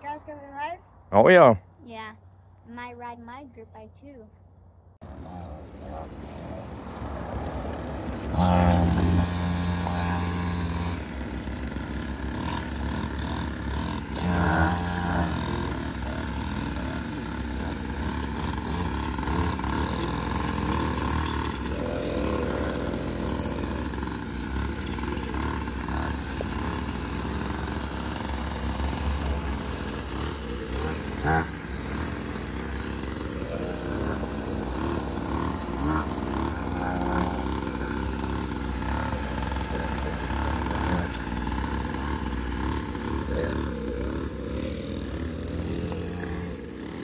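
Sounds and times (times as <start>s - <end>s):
dirt bike engine revving: 5.0s - 47.0s.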